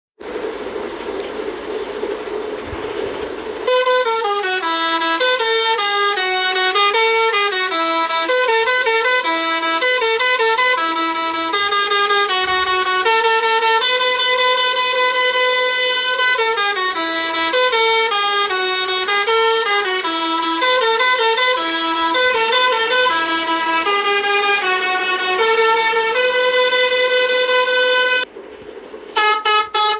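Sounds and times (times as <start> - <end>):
steady noisy hum: 0.2 - 29.9
bus horn playing a melody: 2.8 - 28.3, 29.1 - 29.9.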